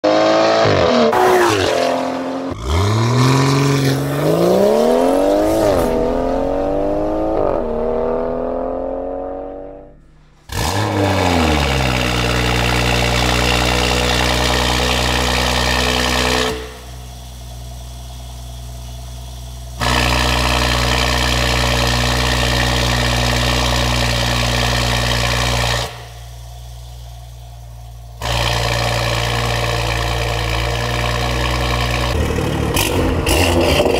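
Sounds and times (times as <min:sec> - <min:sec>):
car engine revving: 0:00.0 - 0:33.9
car engine idling: 0:02.5 - 0:33.9.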